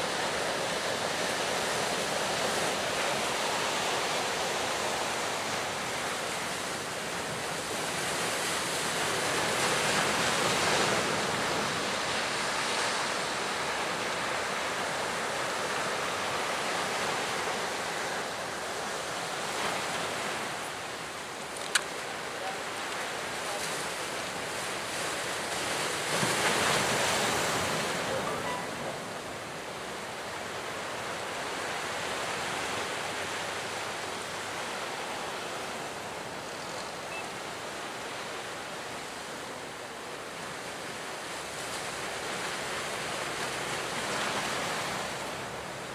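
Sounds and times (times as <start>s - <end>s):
waves breaking: 0.0s - 45.9s.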